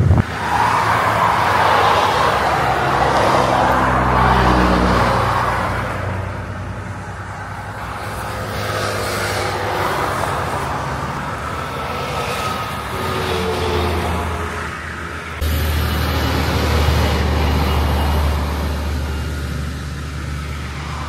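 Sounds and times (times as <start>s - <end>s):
vehicle road noise: 0.0s - 21.0s.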